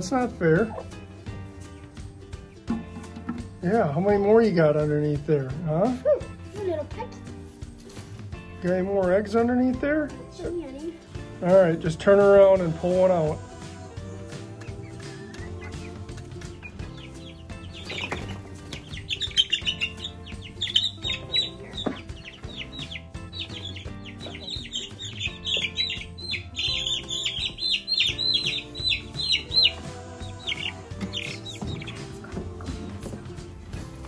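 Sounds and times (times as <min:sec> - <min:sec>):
baby chicks peeping: 0:00.0 - 0:07.0, 0:08.6 - 0:34.0
background music with held notes: 0:00.0 - 0:34.0.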